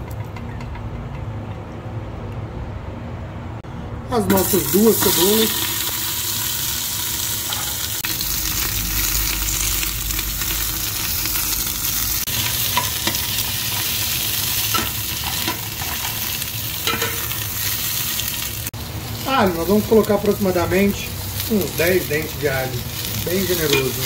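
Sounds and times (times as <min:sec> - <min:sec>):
onions sizzling in hot oil: 0:04.2 - 0:24.0.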